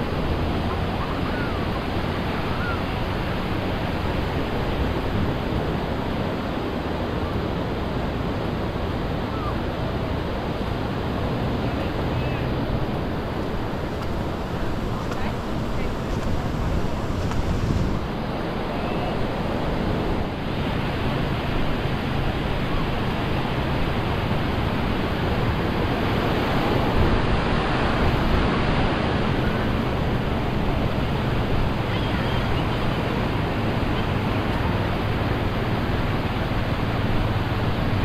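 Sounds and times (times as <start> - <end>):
surf breaking on a beach: 0.0 - 38.0.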